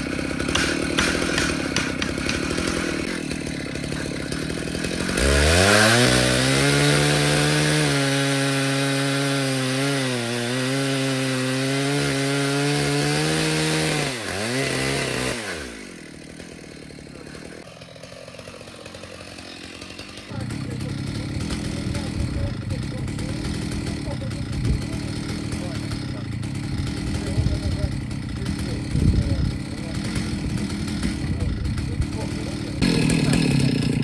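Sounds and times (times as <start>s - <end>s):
chainsaw cutting wood: 0.0s - 34.0s.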